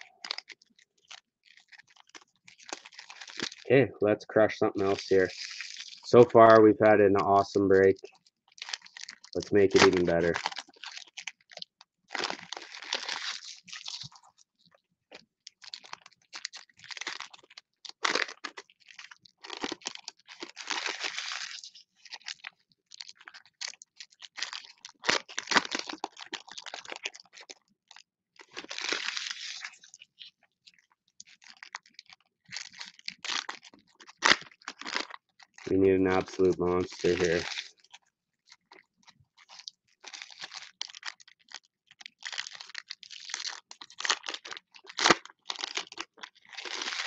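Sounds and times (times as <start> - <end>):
foil wrappers crinkling and tearing: 0.0 - 3.7, 4.3 - 47.0.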